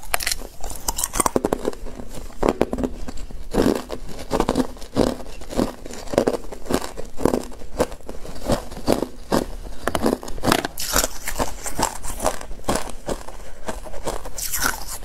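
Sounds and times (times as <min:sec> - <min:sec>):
ice crunching in mouth: 0:00.0 - 0:15.0.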